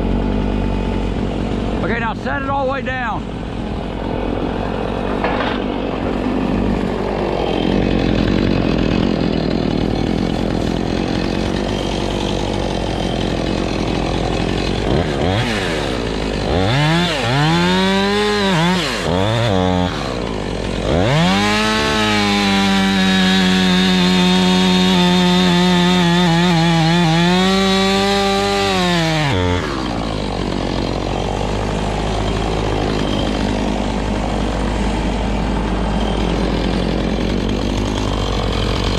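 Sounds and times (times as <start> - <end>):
chainsaw revving: 0.0 - 2.1, 3.2 - 38.9.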